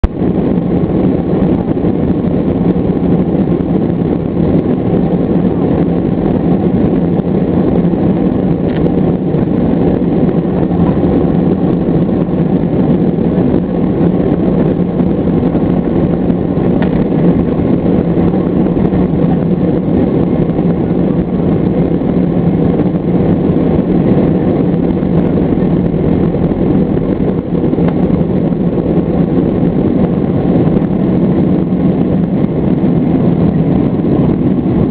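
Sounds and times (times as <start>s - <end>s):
jet engines roaring at takeoff: 0.0s - 34.9s.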